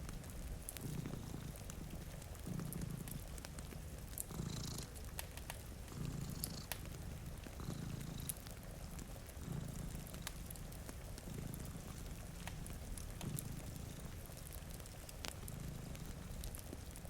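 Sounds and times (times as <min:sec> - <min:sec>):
cat purring: 0:00.0 - 0:17.0
wood fire crackling: 0:00.0 - 0:17.0.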